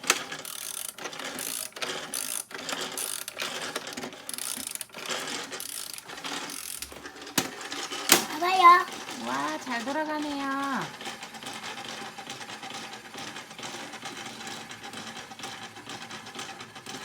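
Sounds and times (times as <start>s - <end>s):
toy washing machine rattling: 0.0s - 17.0s.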